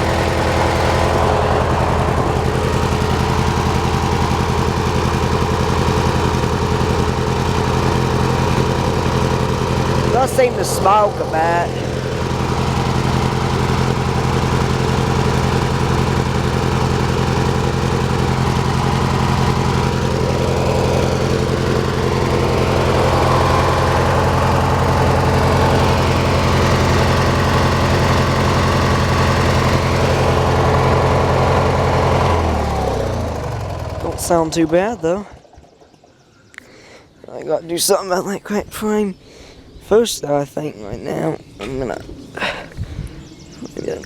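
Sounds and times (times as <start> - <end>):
lawn tractor engine running: 0.0 - 39.0.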